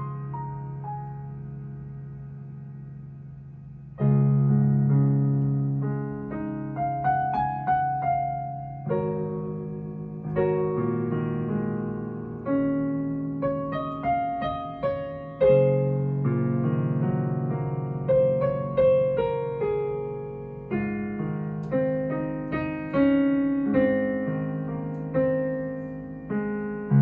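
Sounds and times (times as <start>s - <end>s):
digital piano improvisation: 0.0s - 27.0s.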